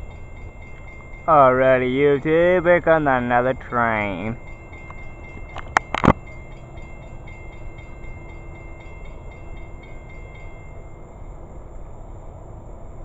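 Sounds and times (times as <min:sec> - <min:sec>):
faint high ringing: 0:00.0 - 0:11.8
train low rumble: 0:00.0 - 0:13.0.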